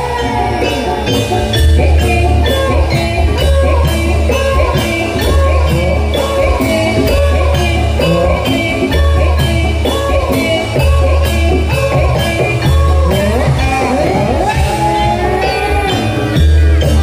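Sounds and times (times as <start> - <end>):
ensemble playing melodic figures: 0.0 - 17.0
pulsing bass: 0.0 - 17.0.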